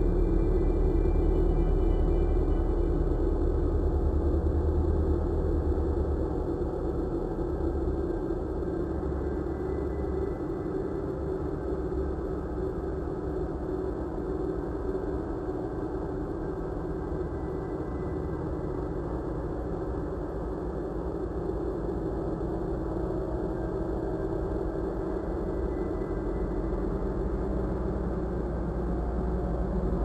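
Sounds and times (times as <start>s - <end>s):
low drone: 0.0s - 30.0s.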